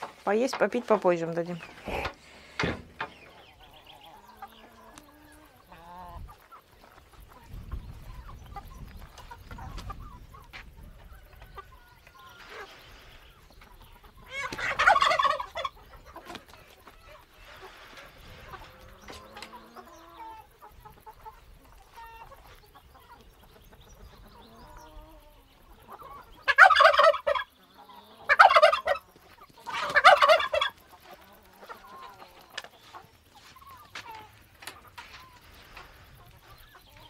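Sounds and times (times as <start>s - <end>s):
chickens clucking softly: 1.5s - 37.0s.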